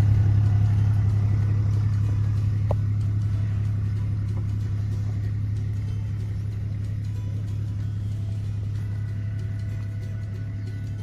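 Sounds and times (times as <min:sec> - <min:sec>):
small buggy engine droning: 0:00.0 - 0:11.0.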